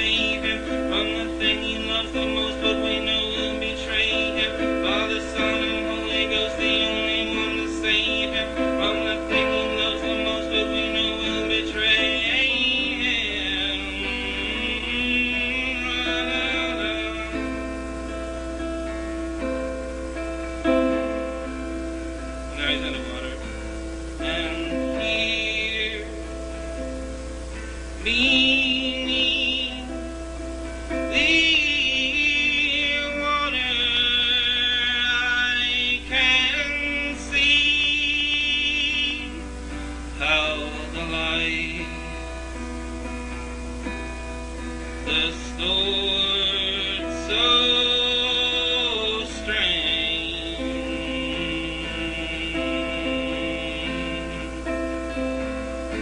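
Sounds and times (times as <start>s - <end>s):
acoustic guitar strumming: 0.0s - 56.0s
man singing wordlessly: 0.0s - 56.0s.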